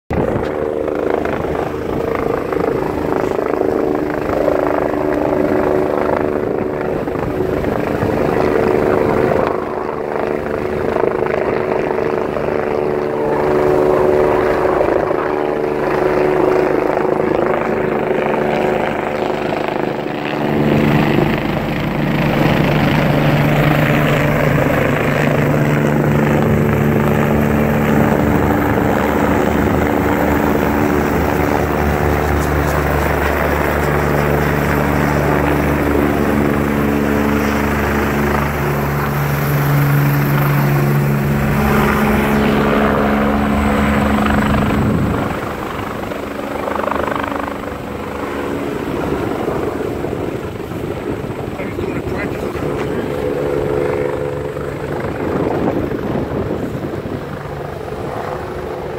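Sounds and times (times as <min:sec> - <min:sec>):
helicopter flying overhead: 0:00.1 - 0:58.9.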